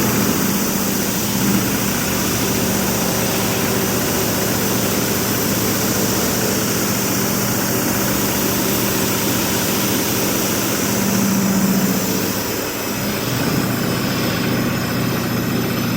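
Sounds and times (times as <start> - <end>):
machine tool humming: 0.0 - 15.9.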